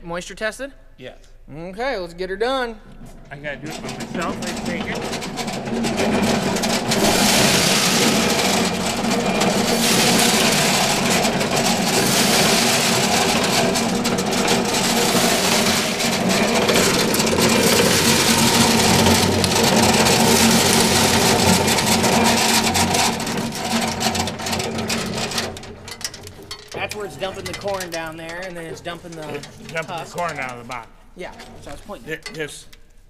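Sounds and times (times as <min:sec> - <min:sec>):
corn sheller running: 0:03.3 - 0:30.8.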